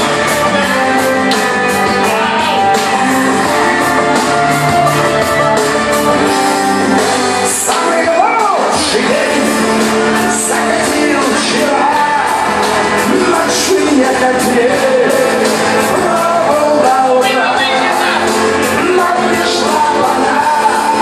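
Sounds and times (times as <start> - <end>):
person singing: 0.0 - 5.5, 6.2 - 21.0
rock song on karaoke system: 0.0 - 21.0.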